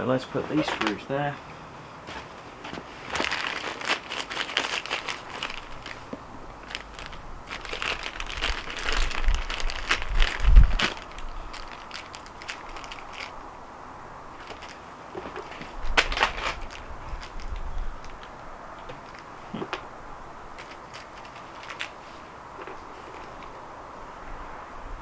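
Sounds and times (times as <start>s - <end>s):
plastic crinkling and rustling: 0.3s - 1.1s, 2.0s - 13.4s, 14.3s - 19.8s, 20.5s - 23.6s.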